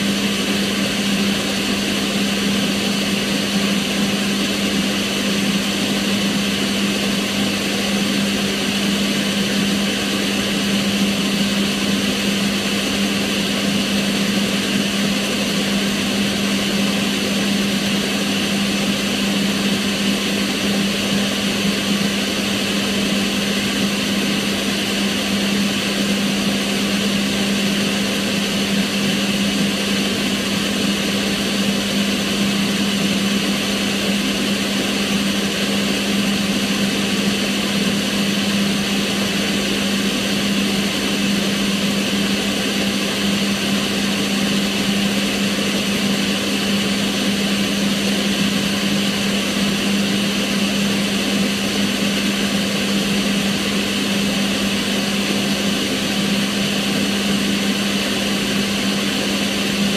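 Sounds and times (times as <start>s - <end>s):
extractor fan rushing air: 0.0s - 59.9s.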